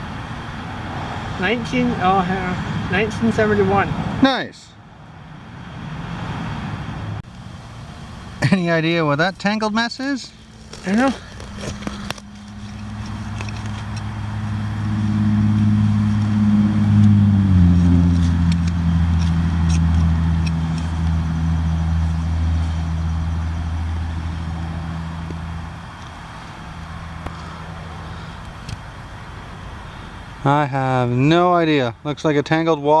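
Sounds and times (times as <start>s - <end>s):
vehicle driving past: 0.0s - 4.2s, 4.8s - 28.4s.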